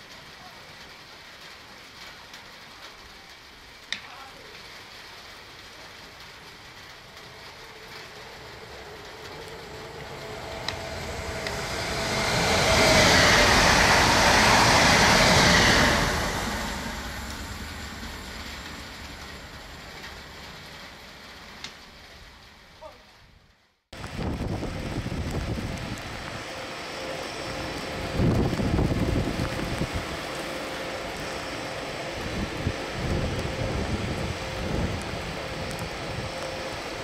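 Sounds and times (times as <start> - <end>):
train passing with rushing rail noise: 0.0 - 22.7, 24.0 - 37.0.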